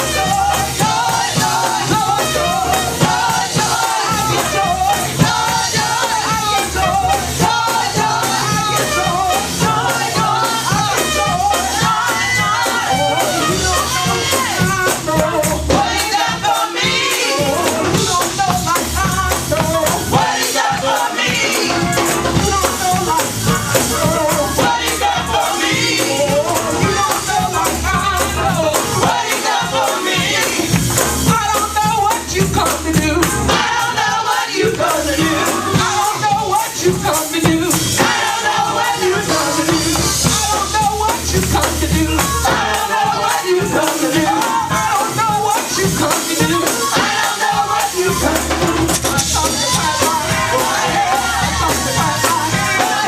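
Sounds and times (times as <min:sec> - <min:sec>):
voices singing gospel music: 0:00.0 - 0:53.0.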